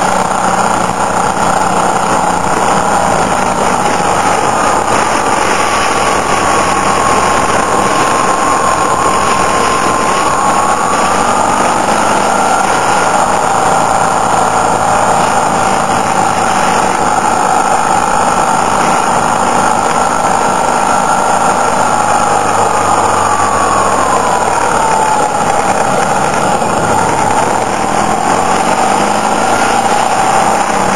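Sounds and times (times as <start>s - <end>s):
heavy wind noise: 0.0s - 30.9s
motorcycle engine running: 0.0s - 30.9s.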